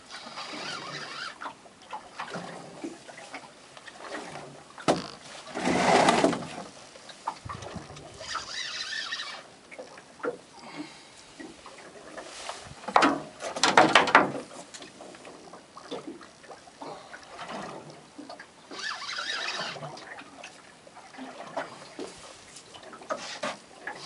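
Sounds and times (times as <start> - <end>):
water slapping against hull: 0.0 - 24.0.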